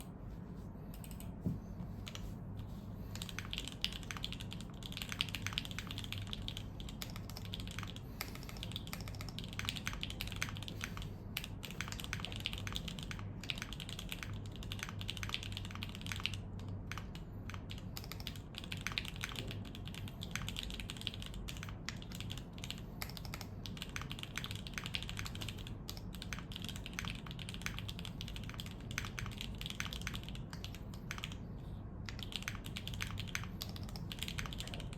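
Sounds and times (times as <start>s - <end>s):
mechanical keyboard typing: 3.1s - 34.9s.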